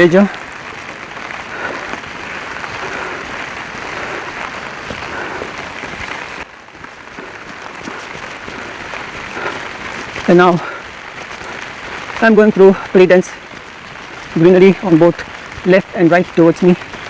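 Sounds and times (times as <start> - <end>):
rain falling close: 0.0 - 17.0.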